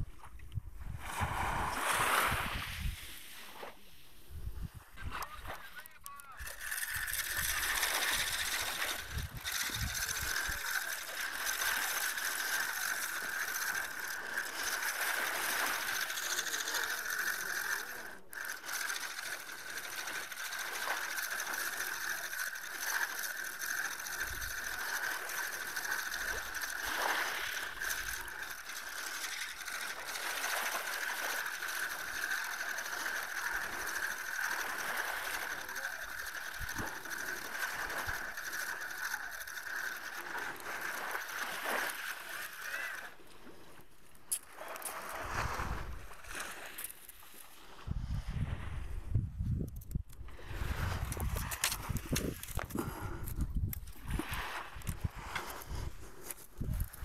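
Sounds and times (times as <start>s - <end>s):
fishing reel whirring and clicking: 4.3s - 57.0s.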